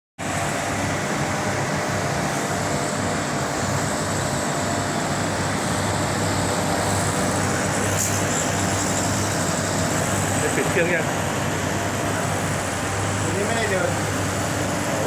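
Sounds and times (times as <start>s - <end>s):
heat pump whirring: 0.2s - 15.0s.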